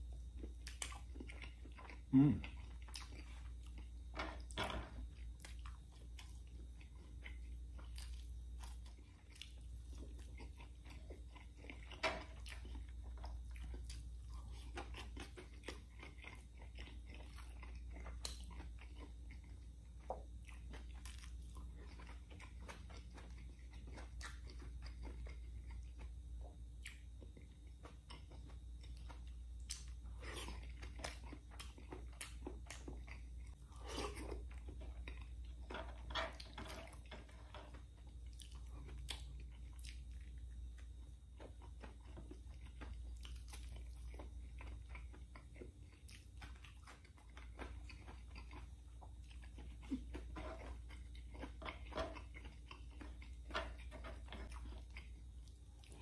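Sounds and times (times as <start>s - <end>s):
low steady hum: 0.0s - 56.0s
person chewing and biting: 0.1s - 56.0s.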